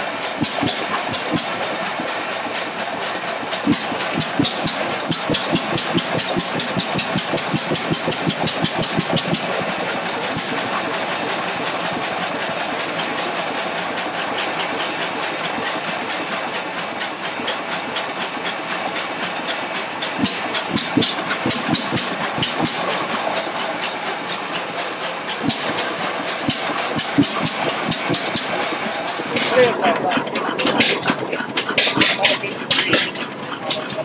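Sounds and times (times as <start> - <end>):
stationary engine running: 0.0 - 34.0.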